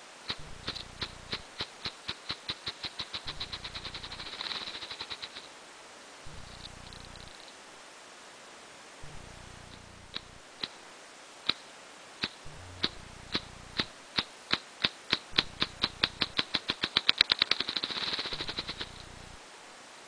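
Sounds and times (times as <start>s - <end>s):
grouse wing drumming: 0.0s - 5.6s, 6.3s - 7.5s, 9.1s - 19.4s.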